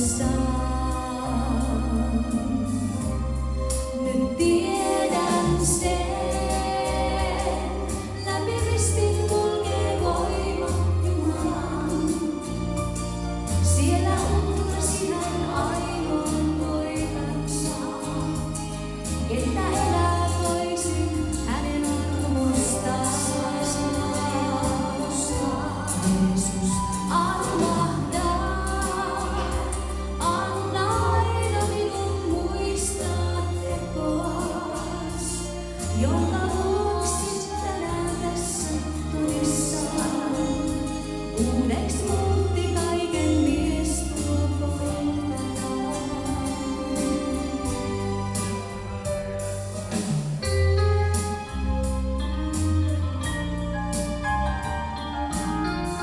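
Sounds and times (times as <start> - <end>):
woman singing into a microphone: 0.0 - 3.2, 4.0 - 12.9, 13.5 - 48.0
instrumental accompaniment with bass: 0.0 - 56.0.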